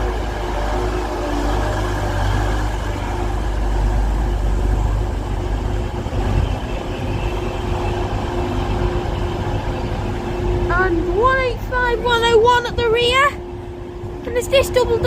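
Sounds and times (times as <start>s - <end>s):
diesel train rumble with whine: 0.0s - 15.0s.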